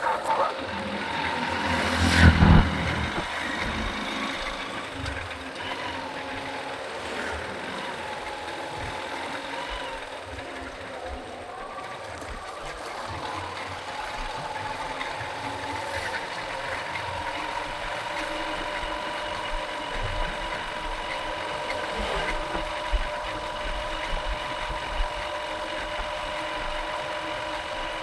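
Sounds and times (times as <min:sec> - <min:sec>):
motorcycle engine running: 0:00.2 - 0:28.0.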